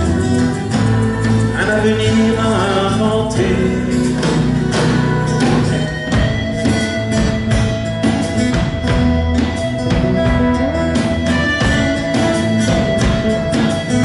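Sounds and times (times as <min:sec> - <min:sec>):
drums steady beat: 0:00.0 - 0:14.0
guitars: 0:00.0 - 0:14.0
held melody notes: 0:00.0 - 0:14.0.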